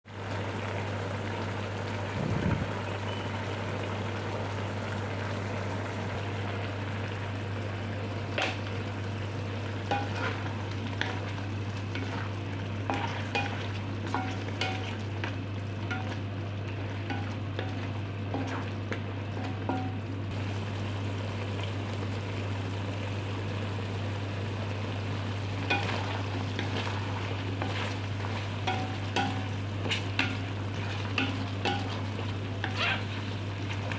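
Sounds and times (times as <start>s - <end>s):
chicken sizzling in a pan: 0.1s - 33.9s.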